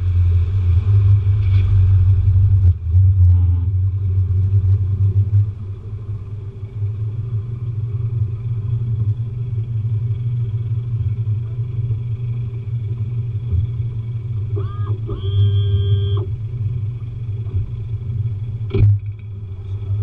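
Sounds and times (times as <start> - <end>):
faint whining tones: 0.0 - 20.0
outboard motor rumbling: 0.0 - 20.0.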